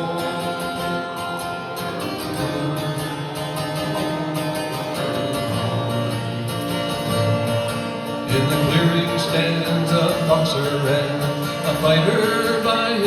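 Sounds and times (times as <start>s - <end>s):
guitar strumming: 0.0s - 13.0s.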